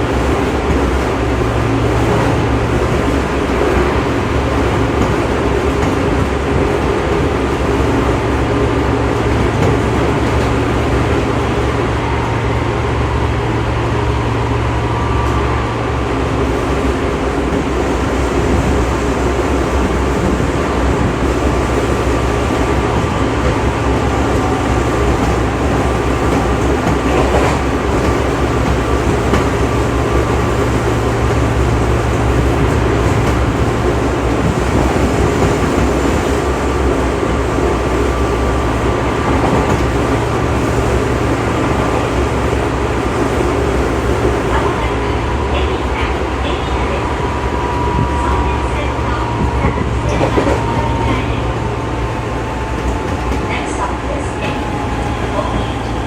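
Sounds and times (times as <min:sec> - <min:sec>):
electric train motor hum: 0:00.0 - 0:56.0
wheel-on-rail noise: 0:00.0 - 0:56.0.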